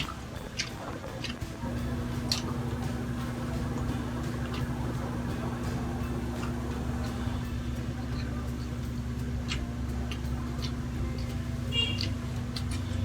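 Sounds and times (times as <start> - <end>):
steady low hum: 0.0 - 13.0
wet chewing sounds: 0.0 - 13.0.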